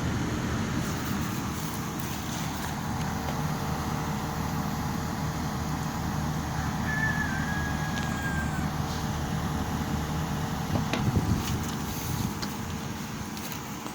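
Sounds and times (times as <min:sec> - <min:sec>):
air conditioner humming: 0:00.0 - 0:13.9.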